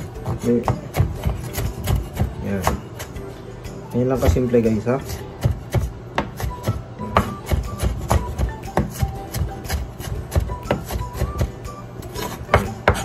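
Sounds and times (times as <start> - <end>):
cleaver chopping onion on wood: 0.0 - 3.2, 4.2 - 13.0
background music: 0.0 - 13.0.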